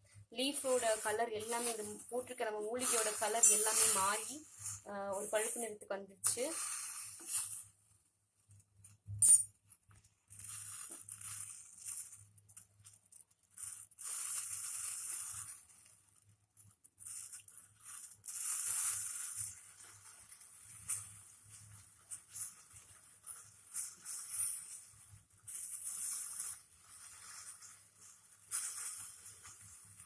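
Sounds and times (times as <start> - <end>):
pot bubbling and hissing: 0.0 - 9.1, 10.0 - 30.0.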